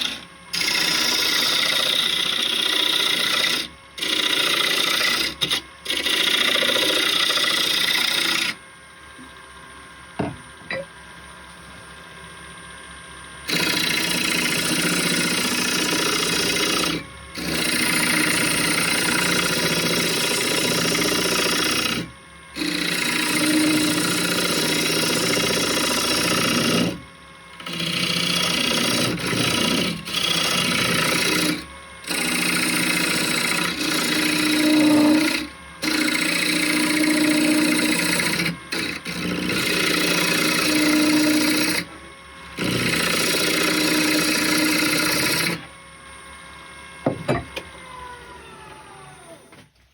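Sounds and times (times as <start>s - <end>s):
wood lathe scraping hiss: 0.0s - 8.6s, 13.4s - 45.7s
faint motor hum: 0.0s - 49.9s.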